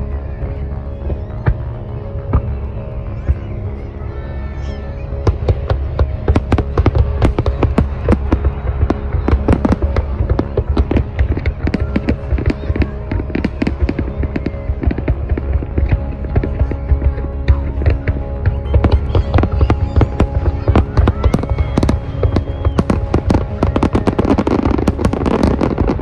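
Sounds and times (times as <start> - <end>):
fireworks banging and crackling: 0.0 - 4.0, 4.6 - 26.0
background music: 0.0 - 26.0.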